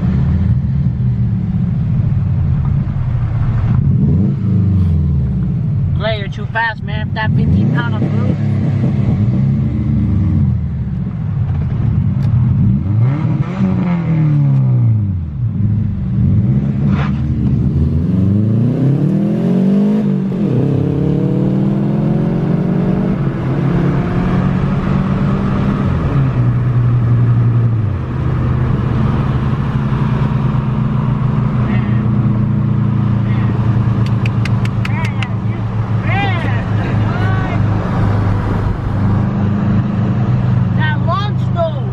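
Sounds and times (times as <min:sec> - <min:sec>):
loud car engine revving: 0:00.0 - 0:10.8, 0:11.4 - 0:41.9.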